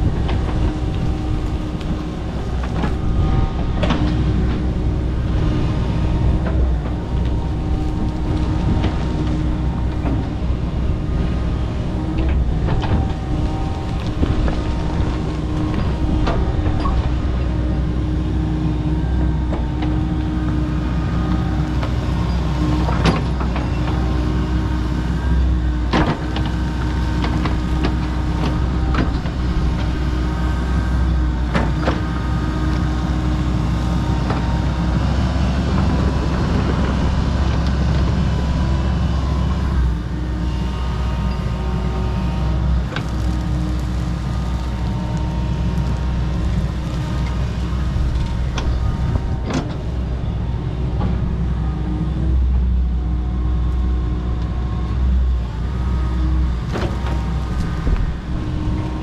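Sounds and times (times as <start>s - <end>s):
excavator engine under load: 0.0s - 59.0s.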